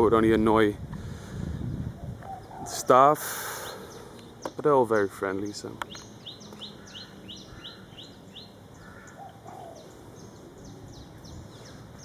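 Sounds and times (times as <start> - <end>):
steady outdoor background: 0.0 - 12.0
birds chirping: 1.0 - 12.0.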